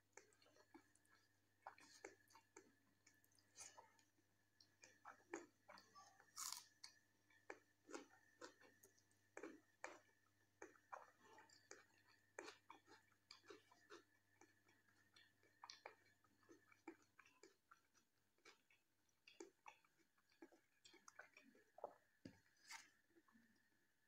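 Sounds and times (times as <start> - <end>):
chewing and wet mouth sounds: 0.1 - 23.7.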